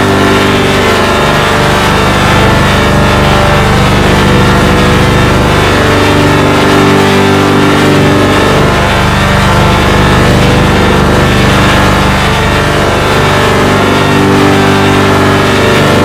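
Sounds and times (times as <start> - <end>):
buzzing engine-like rumble: 0.0 - 16.0
layered electronic drone: 0.0 - 16.0.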